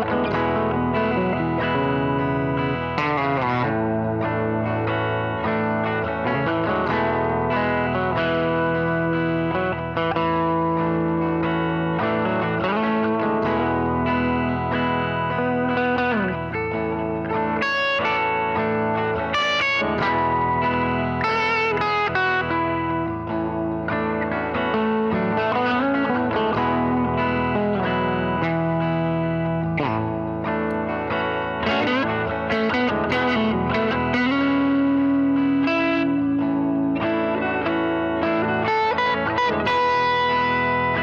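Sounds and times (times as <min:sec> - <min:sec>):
overdriven electric guitar: 0:00.0 - 0:41.0.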